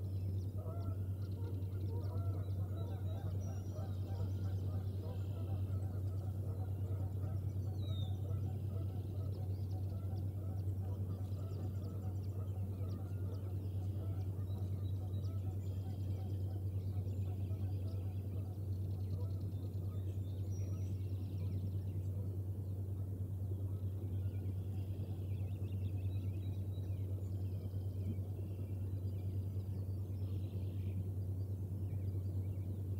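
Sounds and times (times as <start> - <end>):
faint bird chirps and trills: 0.0 - 32.9
low hum: 0.0 - 32.9.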